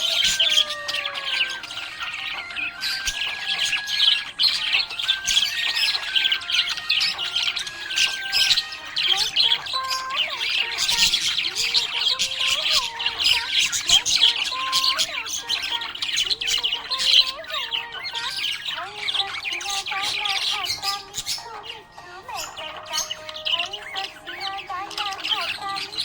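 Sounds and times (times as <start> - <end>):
budgerigar chirping and chattering: 0.0 - 26.0.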